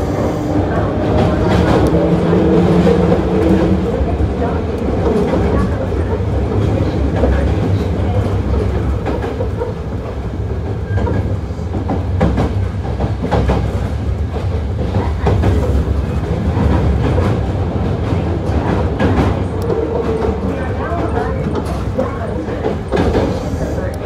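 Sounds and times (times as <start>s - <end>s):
low rumble of wheels on rail: 0.0s - 24.0s.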